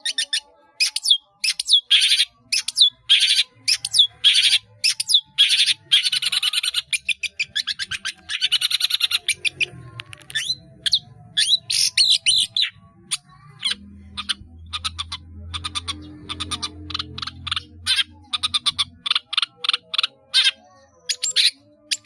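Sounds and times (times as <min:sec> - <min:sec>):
bird singing chattering song: 0:00.0 - 0:22.0.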